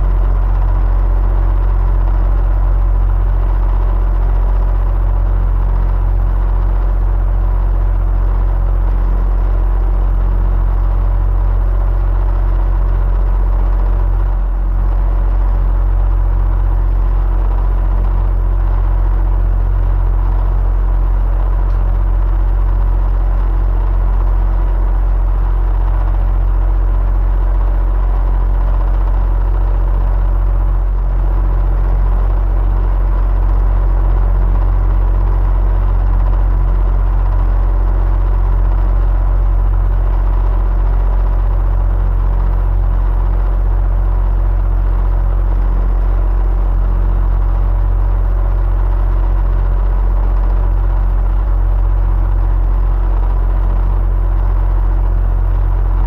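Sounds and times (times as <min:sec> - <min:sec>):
electric fan running: 0:00.0 - 0:56.0.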